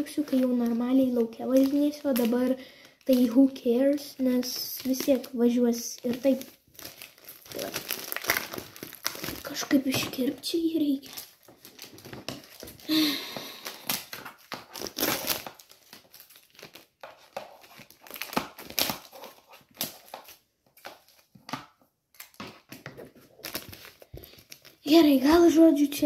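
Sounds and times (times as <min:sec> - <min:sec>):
cellophane crinkling: 0:00.0 - 0:25.6.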